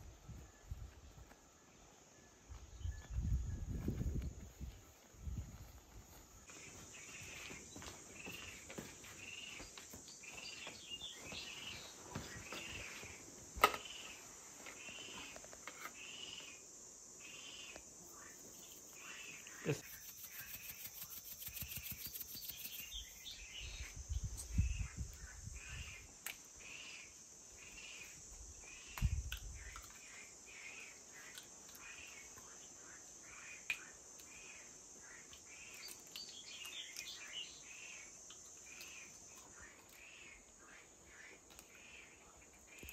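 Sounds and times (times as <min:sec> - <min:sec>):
high insect trill: 0:00.0 - 0:42.9
insects chirping: 0:00.0 - 0:42.9.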